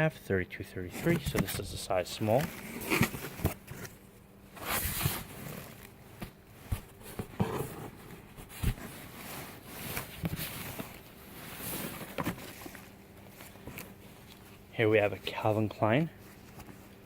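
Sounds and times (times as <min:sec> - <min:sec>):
cloth and packaging rustling: 0:00.9 - 0:17.0.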